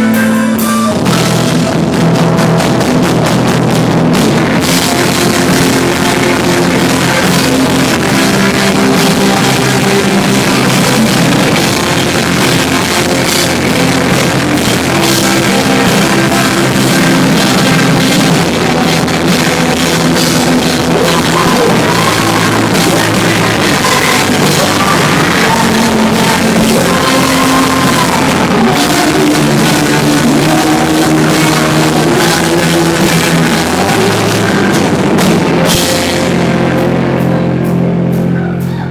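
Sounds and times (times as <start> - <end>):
person singing: 0.0 - 37.6, 38.2 - 38.9
drum kit: 0.0 - 38.9
electric guitars: 0.0 - 38.9.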